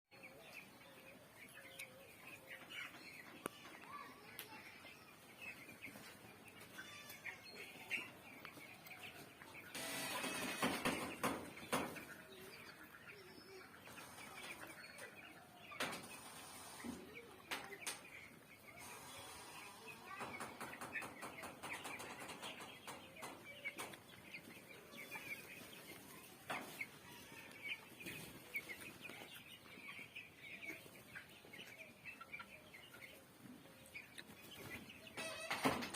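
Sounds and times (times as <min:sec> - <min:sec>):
chicks peeping: 0:00.1 - 0:35.9.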